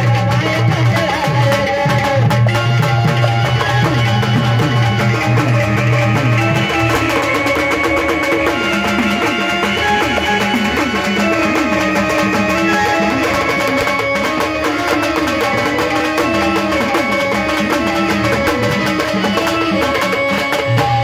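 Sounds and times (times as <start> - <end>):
drums: 0.0 - 21.0
plucked string instrument: 0.0 - 21.0.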